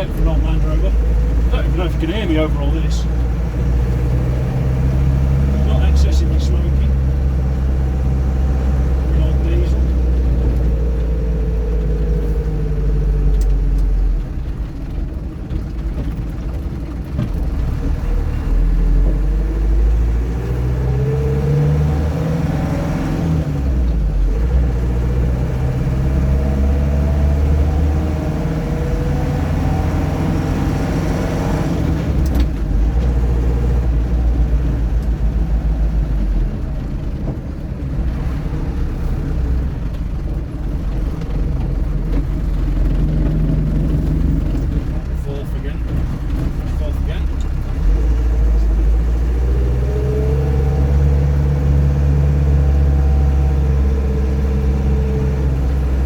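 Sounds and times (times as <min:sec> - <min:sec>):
car engine under load: 0:00.0 - 0:56.0.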